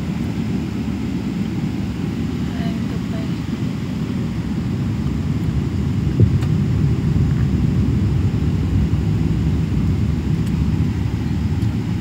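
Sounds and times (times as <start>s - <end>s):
airliner low rumble: 0.0s - 12.0s.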